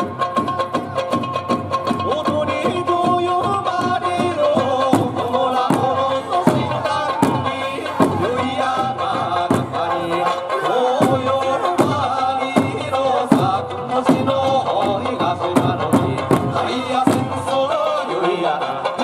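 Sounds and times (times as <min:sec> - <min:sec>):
barrel drums and hand drums: 0:00.0 - 0:19.0
folk song singing: 0:00.0 - 0:19.0.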